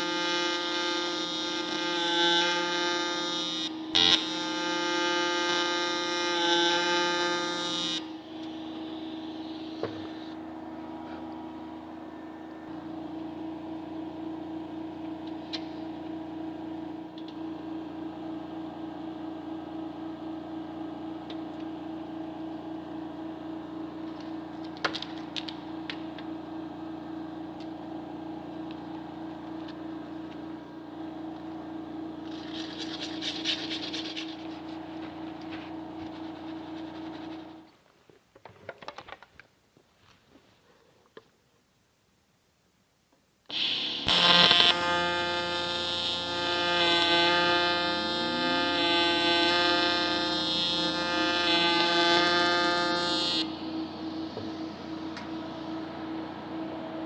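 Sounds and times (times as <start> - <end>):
workshop machine humming: 0.0 - 37.7, 43.5 - 57.0.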